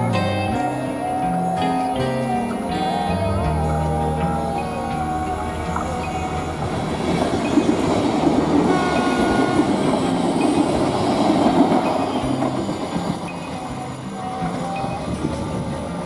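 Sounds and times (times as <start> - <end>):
passenger train passing: 0.0 - 16.0.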